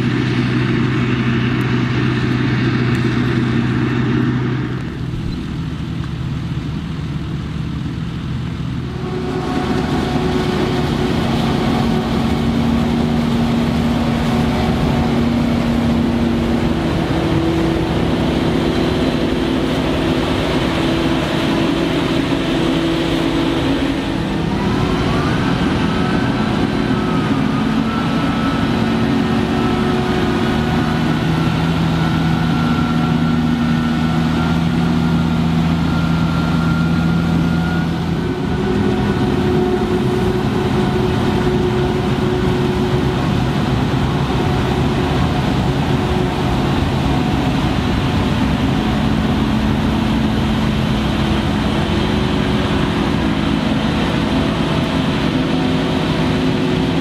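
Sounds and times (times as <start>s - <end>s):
rising whine: 0.0s - 57.0s
tractor engine drone: 0.0s - 57.0s.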